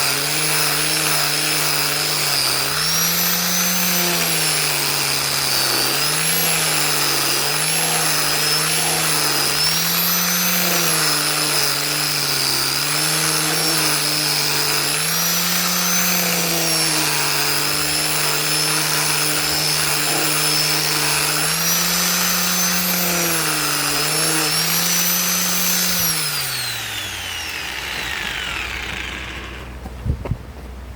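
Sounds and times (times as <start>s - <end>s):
electric sander on wood: 0.0s - 30.0s.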